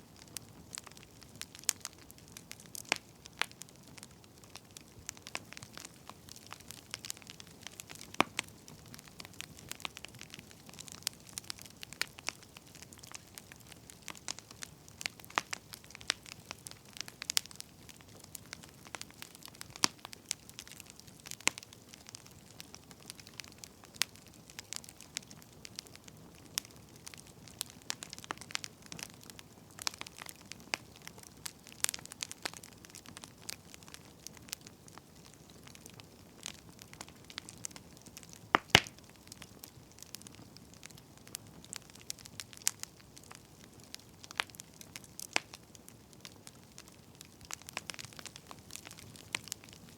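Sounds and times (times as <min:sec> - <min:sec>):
firewood crackling and popping: 0:00.0 - 0:49.9.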